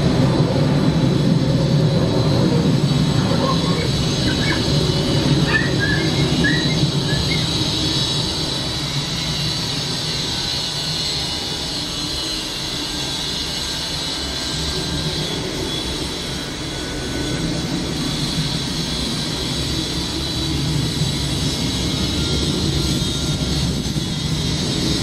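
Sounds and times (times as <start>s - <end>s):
jet engines at takeoff thrust: 0.0s - 25.0s.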